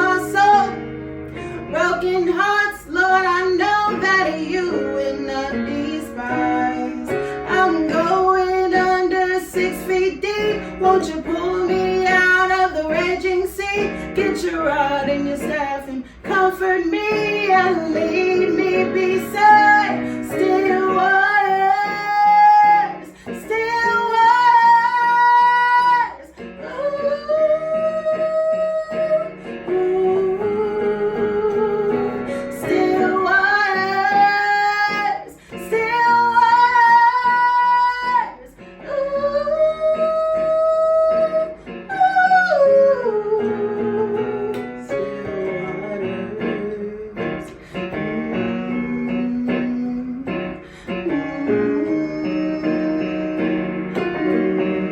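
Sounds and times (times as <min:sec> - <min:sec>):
guitar and piano accompaniment: 0:00.0 - 0:54.9
woman singing: 0:00.0 - 0:54.9.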